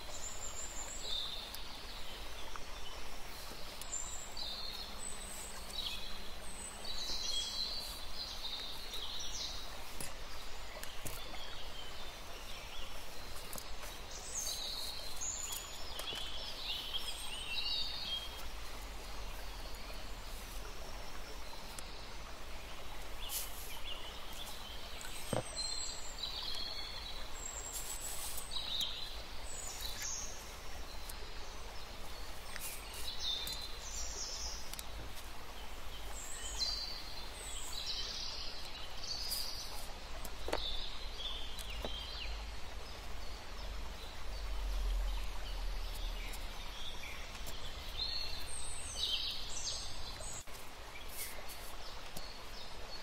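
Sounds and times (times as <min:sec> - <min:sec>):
birds chirping: 0:00.0 - 0:53.0
steady background hiss: 0:00.0 - 0:53.0.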